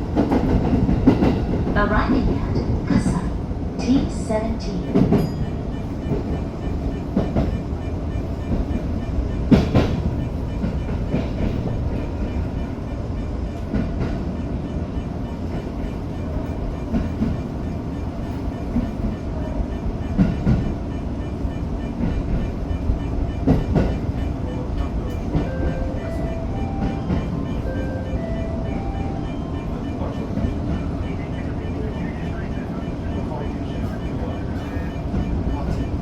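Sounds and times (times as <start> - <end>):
sharp train clanks: 0.0 - 32.2
electric train rumble: 0.0 - 36.0.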